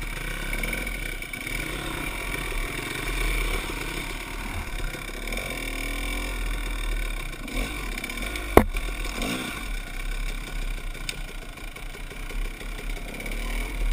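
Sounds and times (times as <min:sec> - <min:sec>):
dirt bike engine revving: 0:00.0 - 0:13.9.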